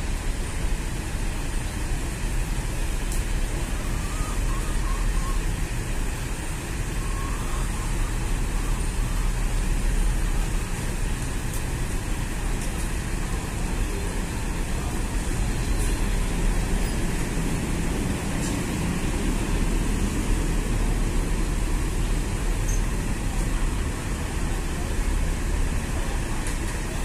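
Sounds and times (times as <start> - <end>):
diesel bus engine rumble: 0.0 - 27.0.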